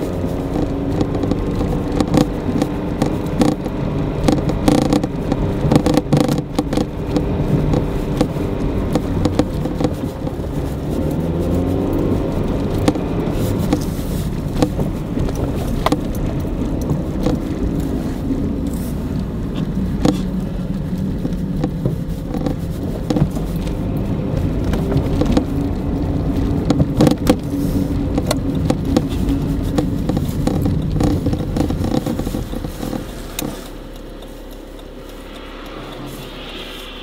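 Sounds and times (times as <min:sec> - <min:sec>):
car engine and tyre rumble: 0:00.0 - 0:37.0
knocks and crackles: 0:00.0 - 0:37.0.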